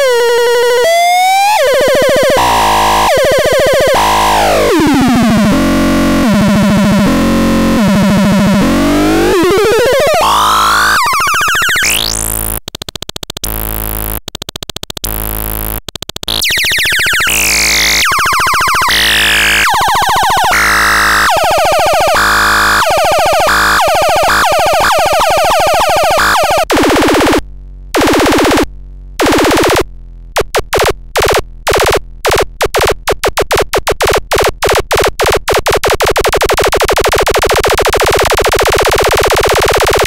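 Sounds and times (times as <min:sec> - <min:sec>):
synthesizer gliding buzzy tones: 0:00.0 - 0:40.0.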